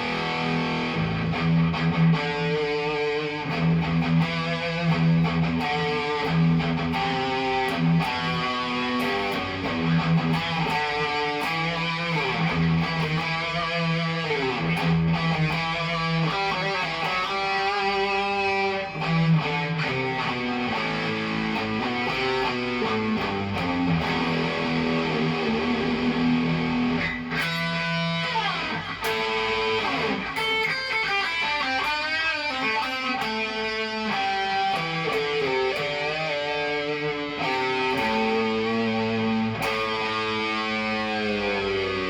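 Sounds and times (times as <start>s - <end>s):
electric guitar playing: 0.0s - 42.0s.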